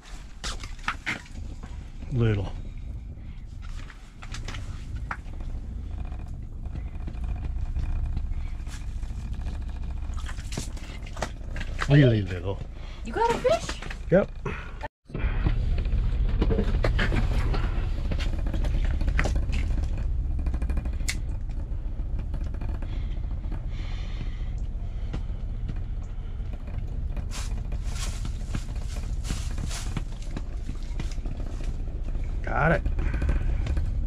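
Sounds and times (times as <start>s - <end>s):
low rumble: 0.0s - 34.0s.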